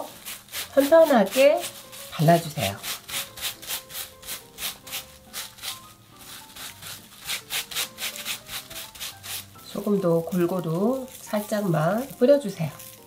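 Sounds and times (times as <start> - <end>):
gloved hand rustling dried seaweed: 0.0 - 13.0.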